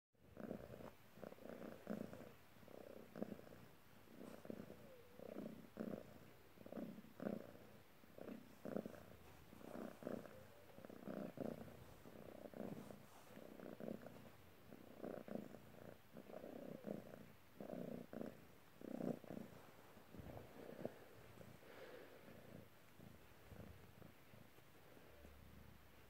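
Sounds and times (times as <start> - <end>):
cat purring: 0.2 - 26.0.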